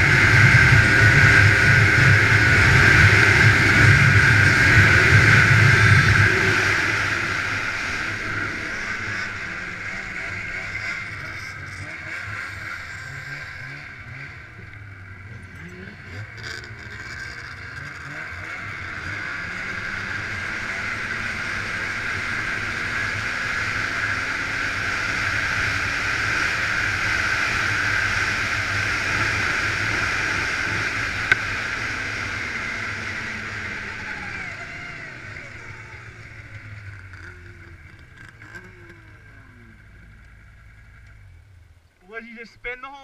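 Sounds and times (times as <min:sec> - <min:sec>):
snowmobile engine running: 0:00.0 - 0:41.6.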